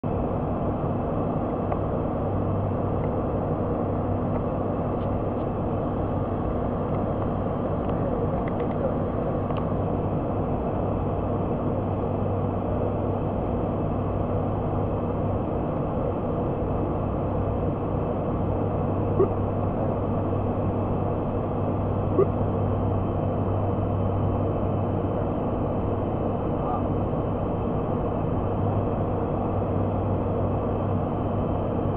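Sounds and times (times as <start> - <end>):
turboprop engines droning: 0.0 - 31.9.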